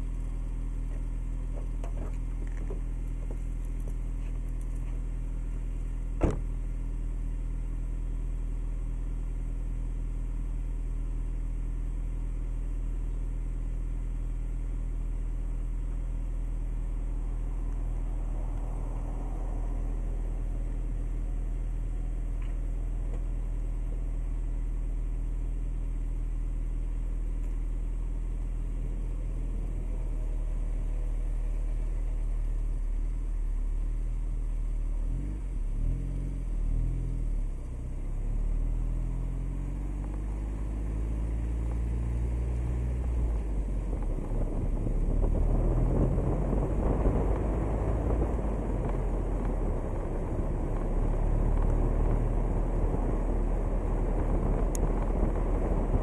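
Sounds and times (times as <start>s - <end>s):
car engine idling: 0.0s - 56.0s
wind and tyre noise: 0.0s - 56.0s.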